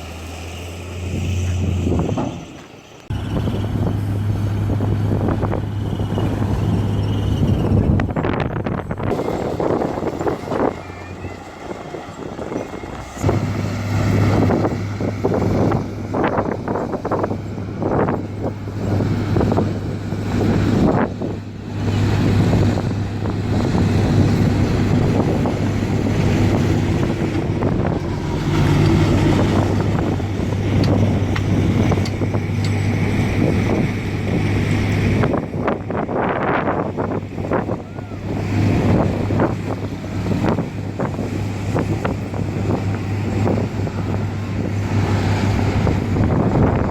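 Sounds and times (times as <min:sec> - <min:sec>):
low diesel engine drone: 0:00.0 - 0:46.9
machinery clanking: 0:00.0 - 0:46.9.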